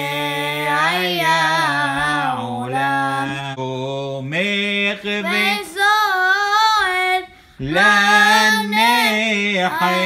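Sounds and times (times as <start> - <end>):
boy singing a hymn: 0.0 - 3.7, 4.4 - 10.0.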